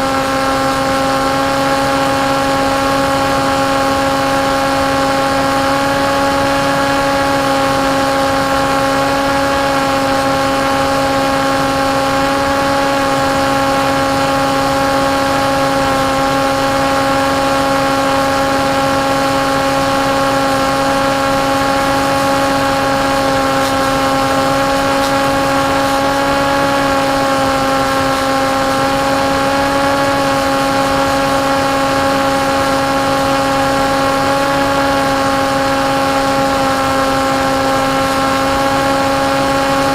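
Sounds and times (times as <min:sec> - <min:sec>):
electric motor buzzing whine: 0:00.0 - 0:39.9.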